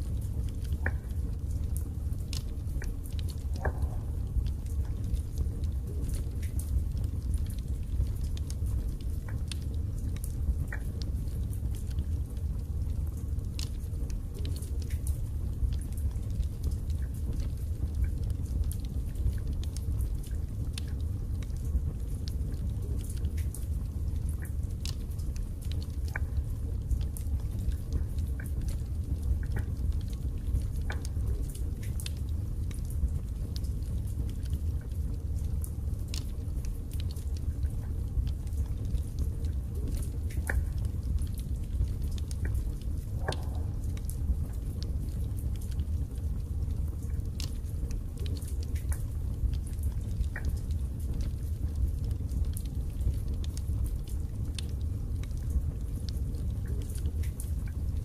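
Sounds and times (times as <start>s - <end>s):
crackles and pops of burning logs: 0.0s - 58.0s
low rumble of fire: 0.0s - 58.0s.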